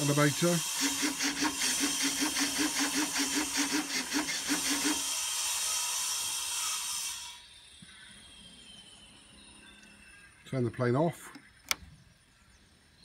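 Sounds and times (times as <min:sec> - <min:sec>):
servo buzzing in pulses: 0:00.0 - 0:10.4.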